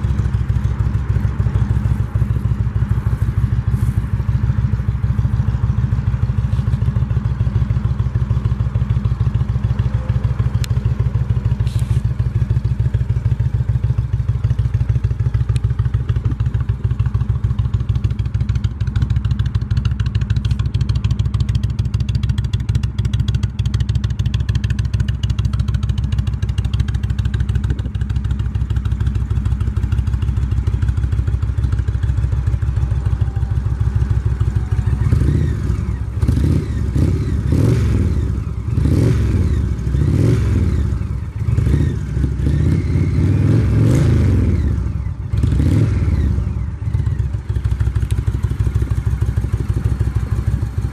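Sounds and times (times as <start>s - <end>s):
motorcycle engine idling: 0.0s - 50.9s
motorcycle throttle blips: 0.0s - 50.9s.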